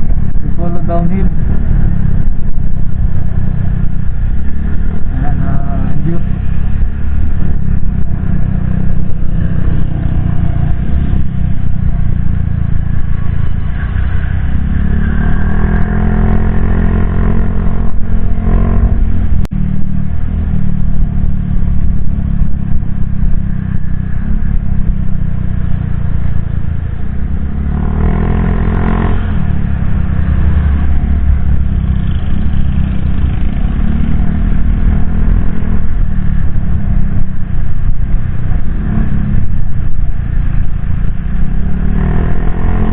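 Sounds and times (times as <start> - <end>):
motorcycle engine revving: 0.0 - 42.9
wind rumble on microphone: 0.0 - 42.9.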